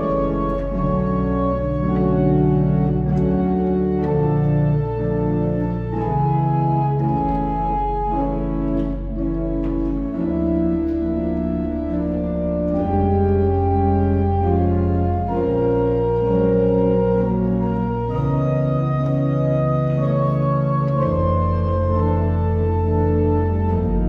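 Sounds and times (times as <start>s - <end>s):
organ chords: 0.0s - 24.0s.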